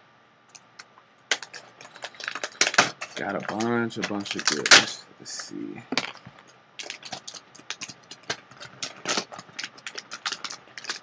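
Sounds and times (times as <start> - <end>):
plastic packaging crinkling and snapping: 0.5 - 11.0.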